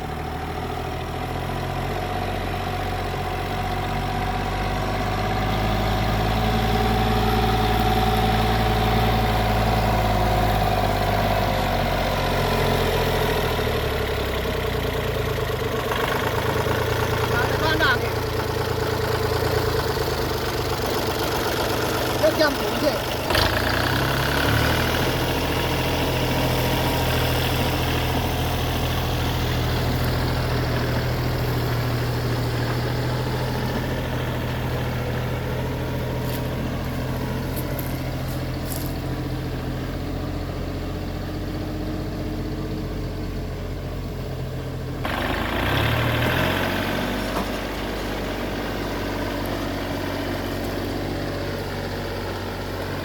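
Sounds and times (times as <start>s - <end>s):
heavy machine engine running: 0.0s - 53.0s.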